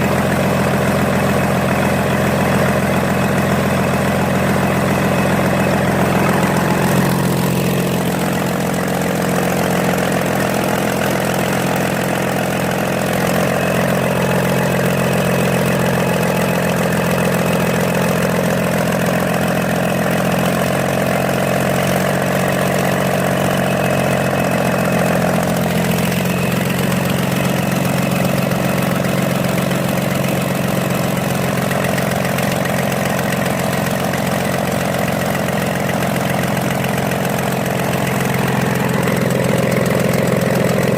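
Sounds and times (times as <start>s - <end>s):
diesel bulldozer engine idling: 0.0s - 40.9s.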